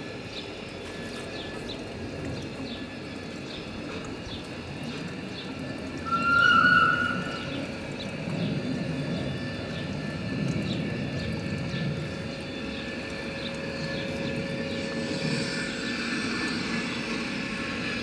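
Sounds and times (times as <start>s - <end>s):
electric locomotive hum: 0.0s - 18.0s.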